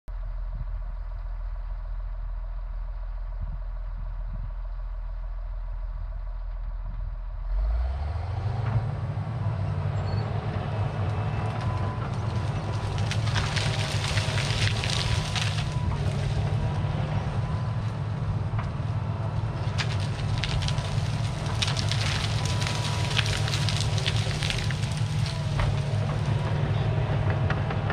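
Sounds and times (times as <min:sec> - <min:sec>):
diesel engine of loader: 0:00.1 - 0:27.9.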